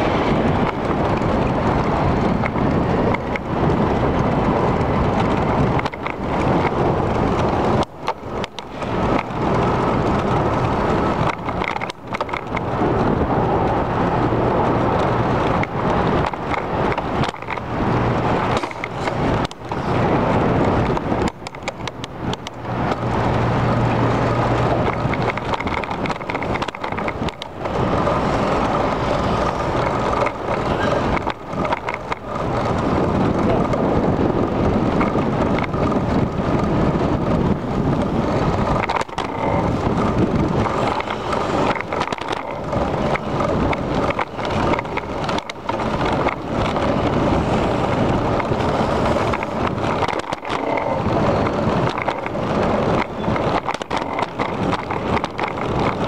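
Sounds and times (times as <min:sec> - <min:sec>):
bicycle rumbling and rattling: 0:00.0 - 0:56.0.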